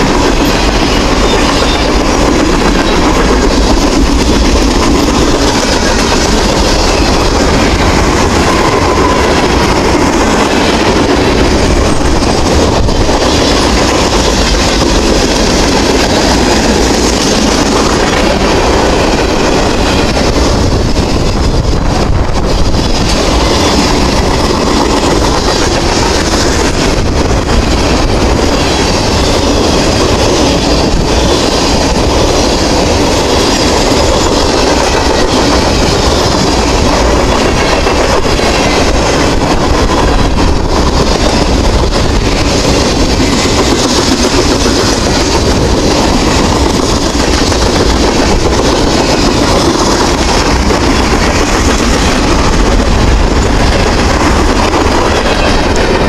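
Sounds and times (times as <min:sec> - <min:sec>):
freight train wheels rumbling on rail: 0:00.0 - 0:56.0
wheels clickety-clack: 0:00.0 - 0:56.0.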